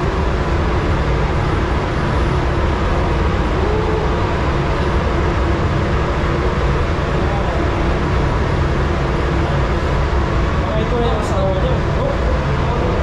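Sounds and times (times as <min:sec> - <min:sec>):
ship machinery rumble: 0:00.0 - 0:13.0.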